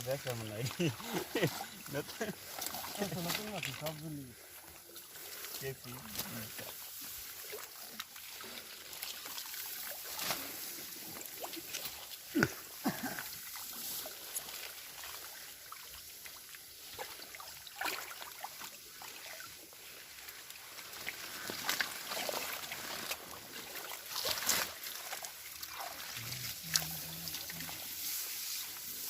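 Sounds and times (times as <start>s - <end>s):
water splashes: 0.0s - 29.0s
water trickling and sloshing: 0.0s - 29.0s.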